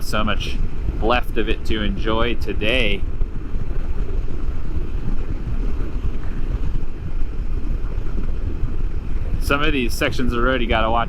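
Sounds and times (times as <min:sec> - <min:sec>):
motorcycle running: 0:00.0 - 0:11.0
road noise: 0:00.0 - 0:11.0
wind buffeting microphone: 0:00.0 - 0:11.0.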